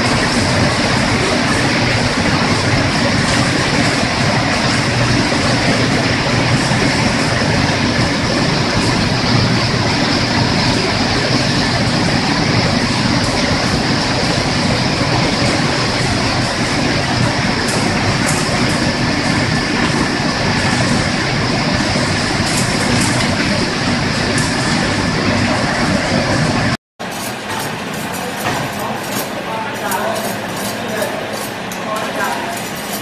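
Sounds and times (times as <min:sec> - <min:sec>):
machine motors and conveyor din: 0:00.0 - 0:33.0.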